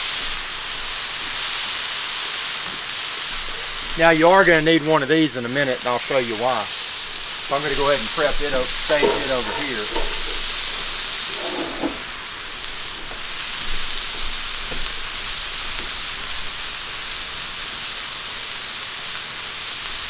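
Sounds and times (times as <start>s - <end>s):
vegetables sizzling on a griddle: 0.0s - 20.0s.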